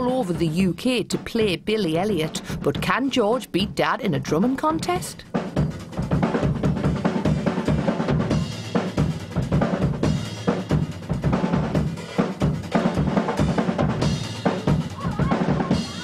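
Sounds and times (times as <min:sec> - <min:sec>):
bass drum: 0:00.0 - 0:16.0.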